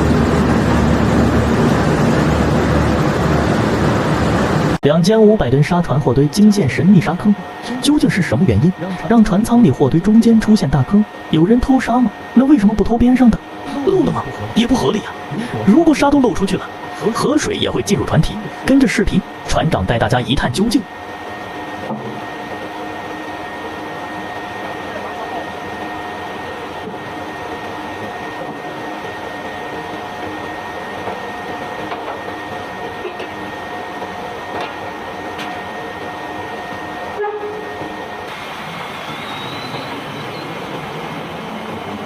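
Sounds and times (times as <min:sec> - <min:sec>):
mechanical whine: 0:00.0 - 0:42.0.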